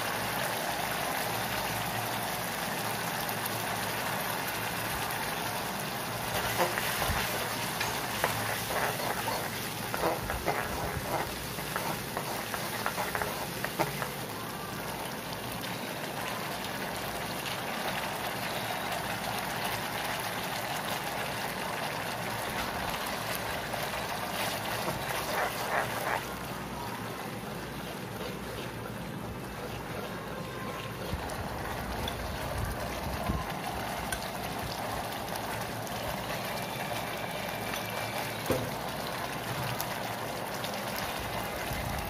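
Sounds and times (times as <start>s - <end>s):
sauce sizzling and bubbling: 0.0s - 29.8s, 31.0s - 42.0s.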